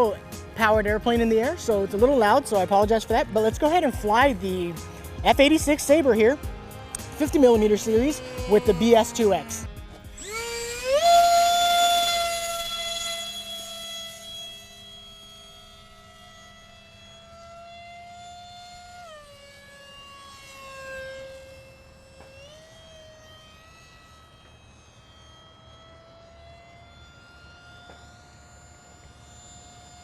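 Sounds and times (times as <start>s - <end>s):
model airplane whining: 0.0s - 30.0s.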